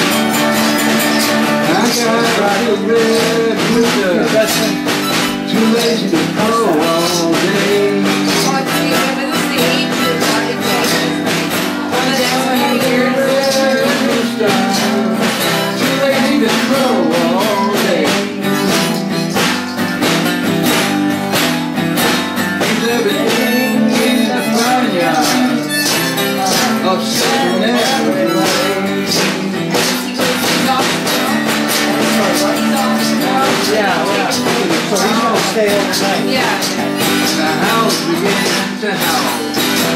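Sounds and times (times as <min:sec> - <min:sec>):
person singing into microphone: 0:00.0 - 0:20.0, 0:22.0 - 0:39.9
acoustic guitar strumming: 0:00.0 - 0:39.9.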